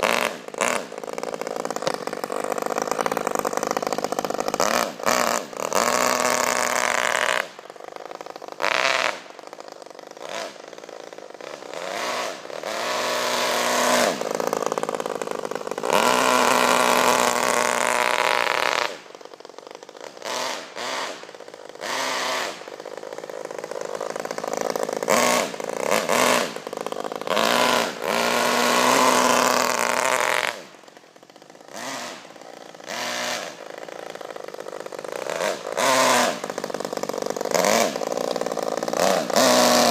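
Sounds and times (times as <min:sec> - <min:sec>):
model car engine revving: 0:00.0 - 0:39.9.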